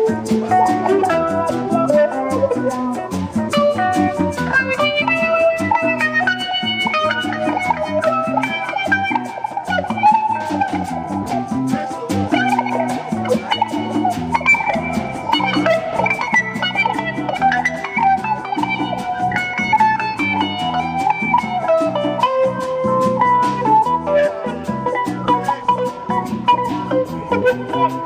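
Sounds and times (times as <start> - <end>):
bass guitar line: 0.0 - 28.0
congas: 0.0 - 28.0
electric guitar melody: 0.0 - 28.0.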